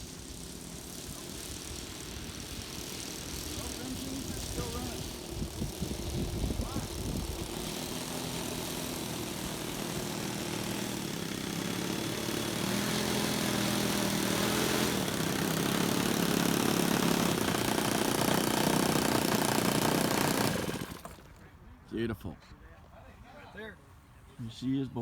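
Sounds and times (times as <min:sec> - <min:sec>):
model plane engines and propellers: 0:00.0 - 0:21.9.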